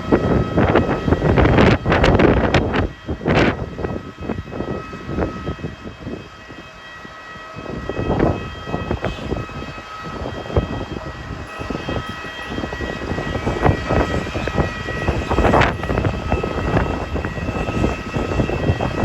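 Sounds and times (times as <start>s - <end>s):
high-pitched machinery whine: 0.0s - 19.0s
wind buffeting microphone: 0.0s - 19.0s.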